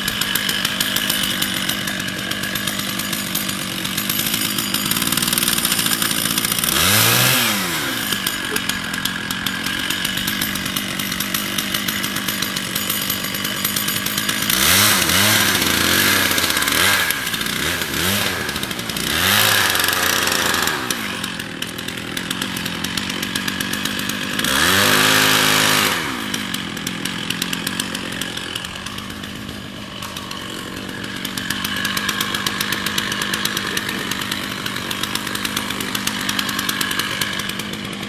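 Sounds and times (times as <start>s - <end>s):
chainsaw engine running: 0.0s - 38.0s.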